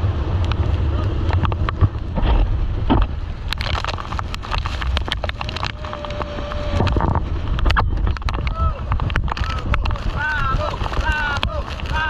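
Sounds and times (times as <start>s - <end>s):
water splashing: 0.0s - 12.0s
wind rumbling on microphone: 0.0s - 12.0s.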